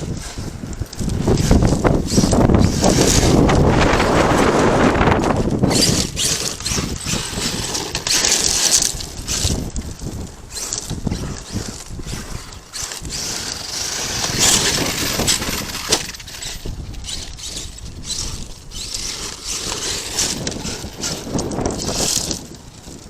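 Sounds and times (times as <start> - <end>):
tyres crunching over gravel: 0.0 - 23.0.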